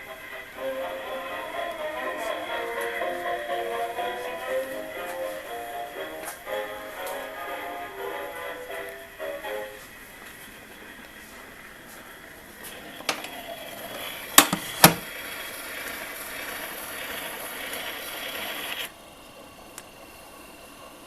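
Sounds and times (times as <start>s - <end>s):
phonograph needle hissing and scratching: 0.0s - 19.0s.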